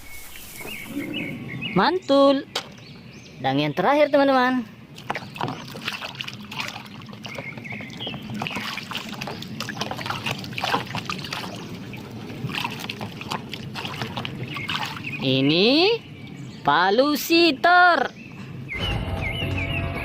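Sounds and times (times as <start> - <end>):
water splashing and trickling: 0.0 - 1.4, 2.1 - 17.3.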